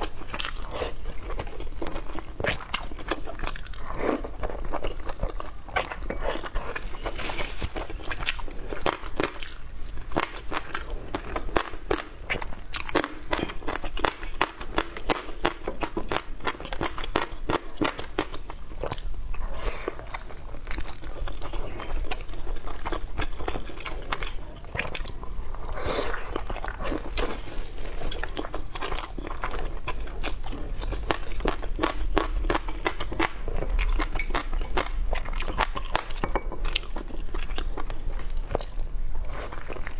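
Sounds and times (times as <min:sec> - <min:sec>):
crunchy chewing and biting: 0:00.0 - 0:39.9.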